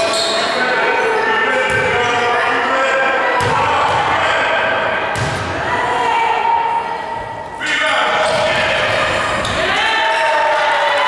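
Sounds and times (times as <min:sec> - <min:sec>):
echoing voices in gym: 0:00.0 - 0:11.0.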